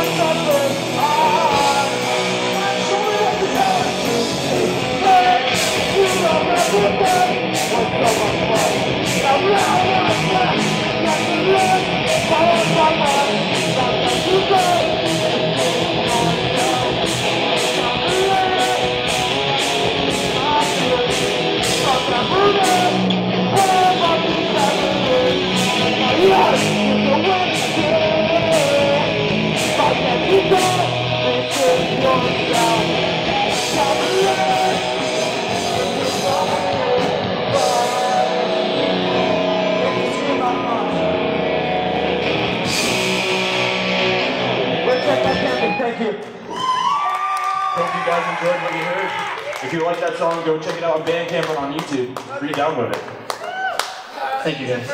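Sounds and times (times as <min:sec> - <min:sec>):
bass guitar: 0:00.0 - 0:46.7
drums: 0:00.0 - 0:49.7
electric guitars: 0:00.0 - 0:51.1.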